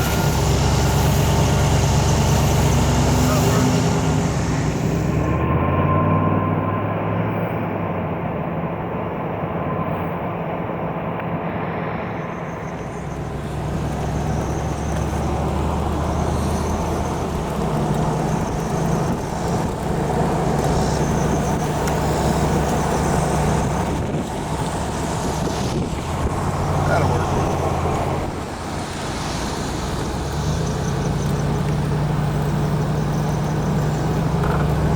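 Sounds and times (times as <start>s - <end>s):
car engine running: 0.0s - 6.1s, 12.2s - 34.9s
road noise: 0.0s - 34.9s.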